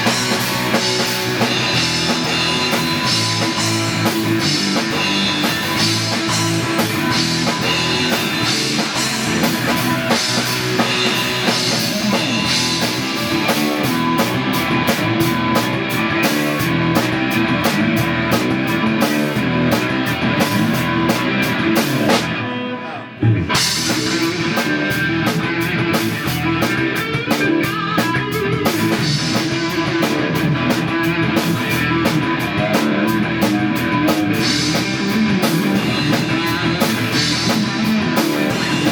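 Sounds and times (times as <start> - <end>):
rock music with drums and guitar: 0.0 - 38.9.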